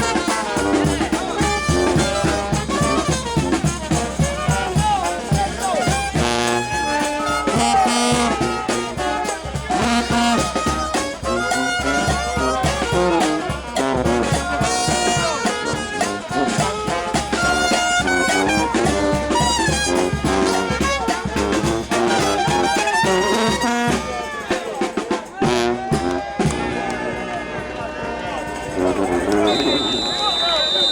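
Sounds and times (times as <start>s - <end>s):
steady drum beat: 0.0s - 30.1s
brass band playing: 0.0s - 30.9s.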